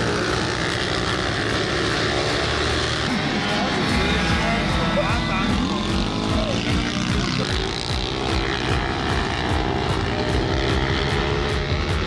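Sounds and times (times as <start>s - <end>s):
minibike engines buzzing and revving: 0.0s - 12.0s.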